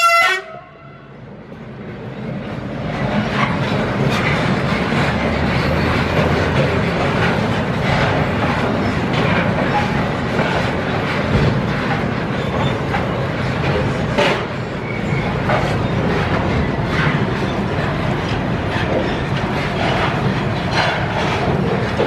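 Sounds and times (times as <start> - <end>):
steel wheels rumbling on rails: 0.0 - 22.0.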